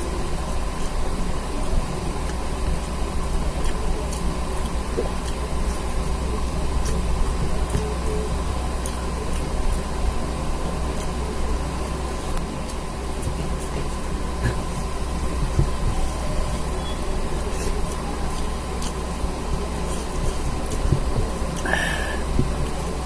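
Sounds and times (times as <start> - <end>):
low machine hum and hiss: 0.0 - 23.0.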